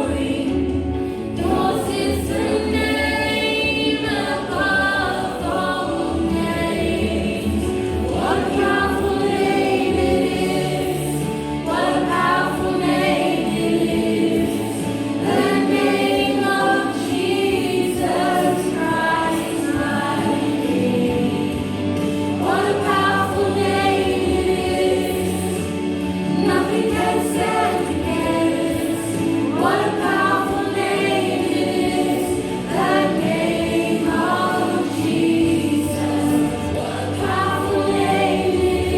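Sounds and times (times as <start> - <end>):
congregation singing with band: 0.0 - 38.9.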